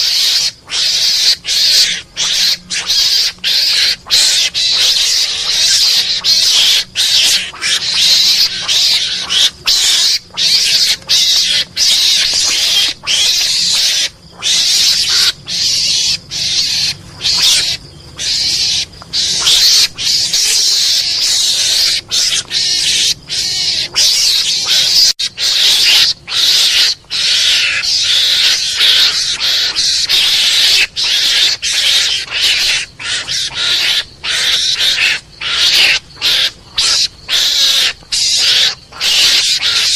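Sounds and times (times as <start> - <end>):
mongoose raspy chattering: 0.0 - 39.9.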